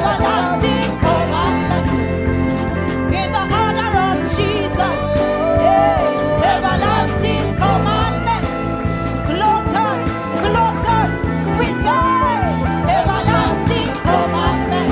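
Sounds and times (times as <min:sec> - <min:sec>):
woman singing gospel: 0:00.0 - 0:02.1, 0:03.1 - 0:14.9
band chords and bass: 0:00.0 - 0:14.9.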